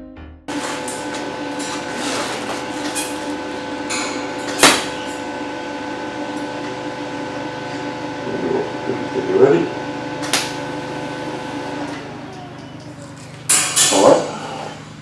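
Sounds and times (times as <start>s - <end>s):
steady machine hum: 0.5s - 15.0s.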